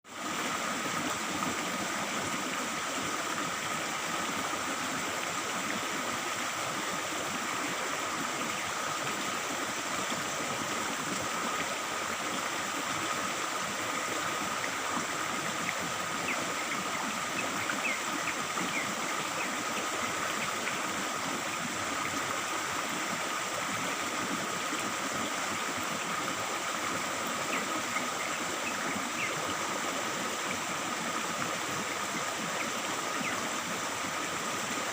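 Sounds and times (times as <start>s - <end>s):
stream babbling over rocks: 0.1s - 34.9s.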